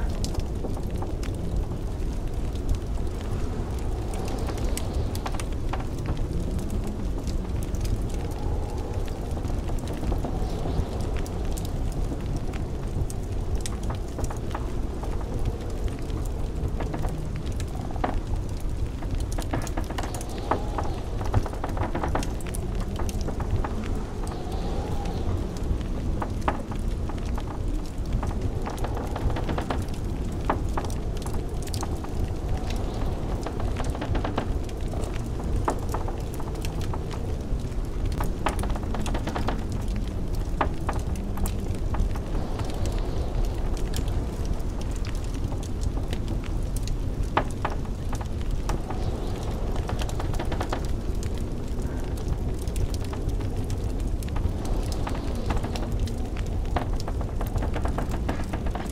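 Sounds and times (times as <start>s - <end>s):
blizzard wind rumbling: 0.0s - 58.9s
wood fire crackling and popping: 0.0s - 58.9s.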